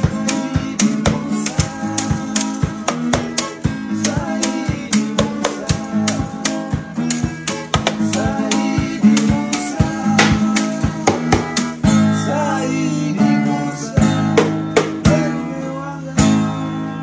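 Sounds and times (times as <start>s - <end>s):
hand drums beat: 0.0s - 13.2s, 13.9s - 15.5s
acoustic guitar strumming: 0.0s - 17.0s
man singing: 0.0s - 17.0s.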